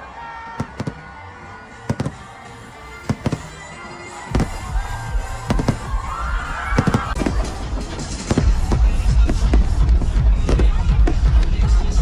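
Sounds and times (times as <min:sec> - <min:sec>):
fireworks bangs: 0:00.6 - 0:12.0.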